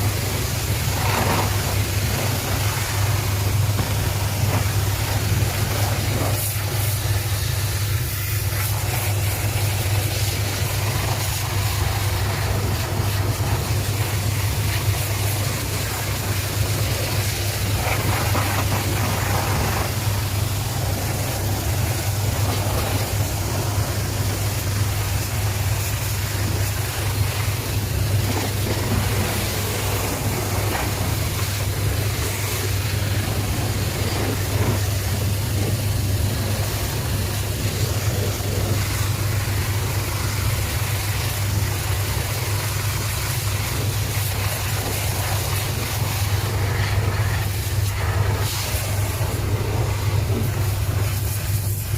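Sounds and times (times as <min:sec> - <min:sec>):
pressure washer droning: 0:00.0 - 0:51.9
water jet hissing: 0:00.0 - 0:51.9.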